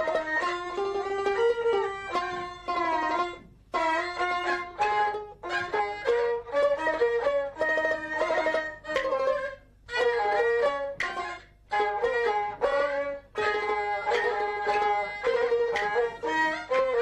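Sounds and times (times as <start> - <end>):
fiddle playing ornamented melody: 0.0 - 17.0.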